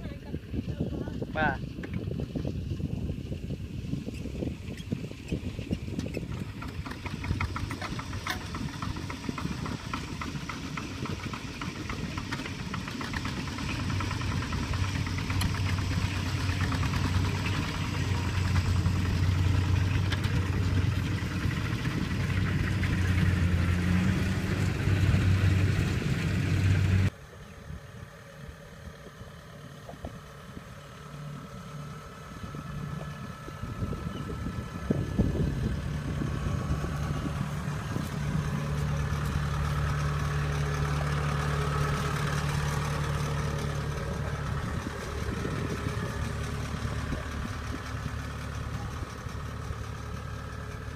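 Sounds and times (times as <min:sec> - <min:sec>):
combine harvester engine: 0:00.0 - 0:50.9
tractor diesel engine running: 0:00.0 - 0:50.9.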